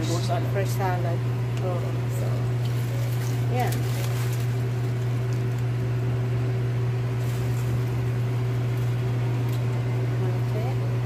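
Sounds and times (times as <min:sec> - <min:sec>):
appliance motor humming: 0:00.0 - 0:11.0.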